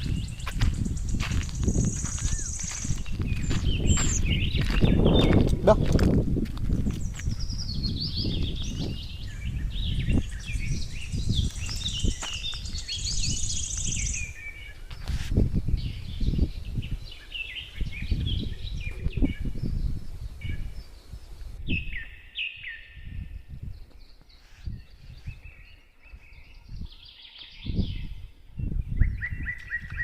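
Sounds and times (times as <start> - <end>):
small birds chirping: 0.0 - 6.0, 6.8 - 30.0.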